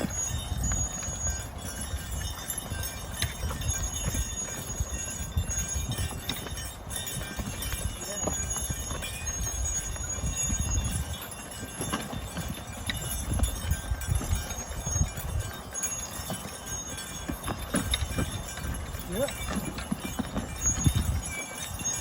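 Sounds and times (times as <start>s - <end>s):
heavy hoof thuds on soil: 0.0s - 21.6s.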